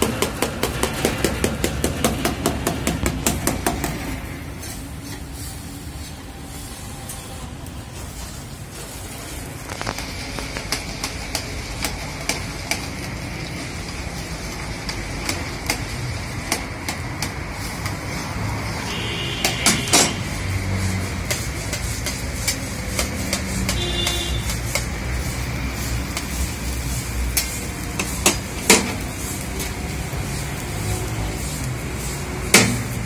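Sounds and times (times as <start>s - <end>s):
cooking hiss: 0.0s - 33.0s
metal utensils scraping a wok: 0.0s - 33.0s.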